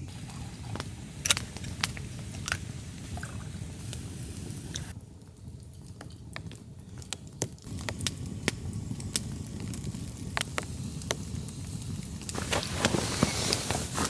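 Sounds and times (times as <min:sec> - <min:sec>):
rustling hiss: 0:00.0 - 0:05.0, 0:07.7 - 0:14.0
campfire crackling and popping: 0:00.0 - 0:14.0.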